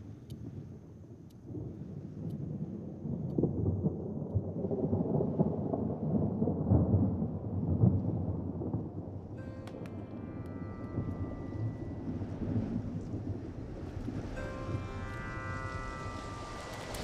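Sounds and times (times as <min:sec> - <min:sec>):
rolling thunder: 0:02.4 - 0:17.0.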